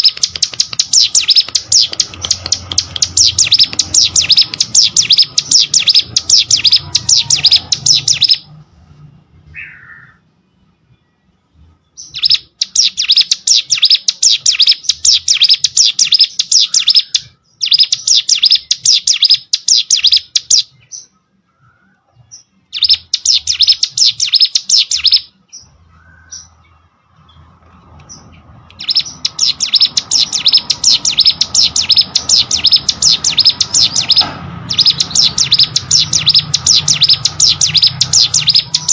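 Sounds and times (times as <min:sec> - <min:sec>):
bird chirping rapidly: 0:00.0 - 0:08.6, 0:11.9 - 0:21.2, 0:22.3 - 0:27.4, 0:28.0 - 0:38.9.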